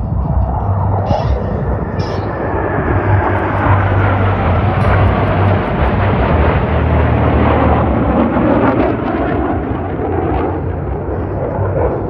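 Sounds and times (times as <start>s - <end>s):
jets passing overhead: 0.0s - 12.0s.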